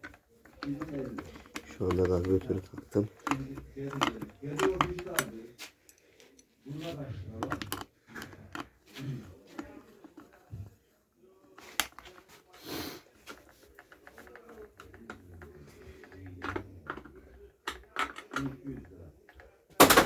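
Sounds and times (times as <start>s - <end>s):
clicks and knocks of hand work: 0.0s - 10.8s, 13.2s - 20.0s
faint indistinct voices: 0.0s - 20.0s.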